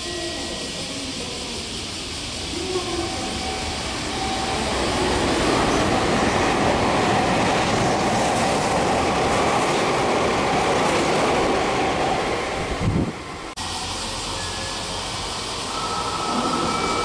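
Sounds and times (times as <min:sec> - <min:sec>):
train wheels rumbling on rail: 0:00.1 - 0:17.0.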